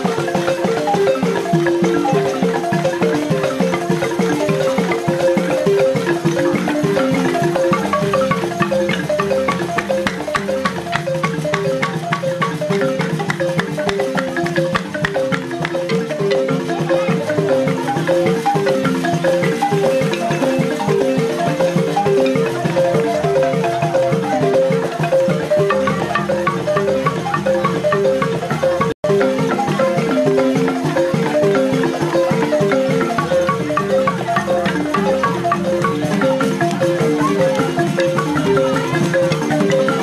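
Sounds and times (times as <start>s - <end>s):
fast xylophone music: 0.0s - 40.0s.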